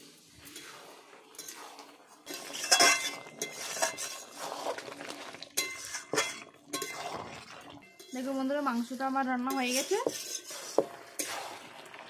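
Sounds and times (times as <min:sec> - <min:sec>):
metal spatula scraping a wok: 0:00.0 - 0:04.9, 0:05.5 - 0:07.4, 0:08.0 - 0:11.7.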